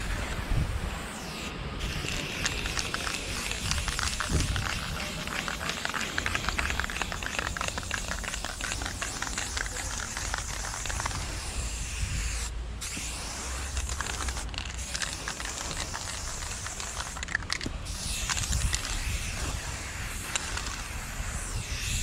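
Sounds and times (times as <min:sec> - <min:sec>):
spray paint can hissing: 0:01.1 - 0:22.0.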